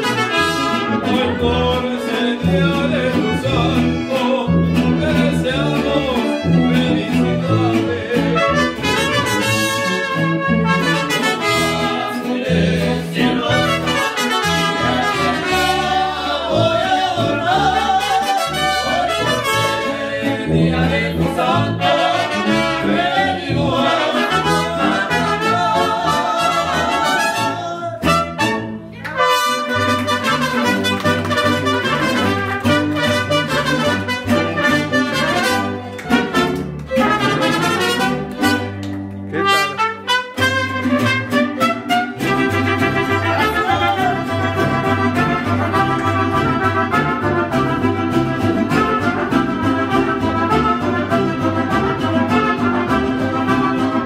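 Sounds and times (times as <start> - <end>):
brass band music: 0.0 - 54.0.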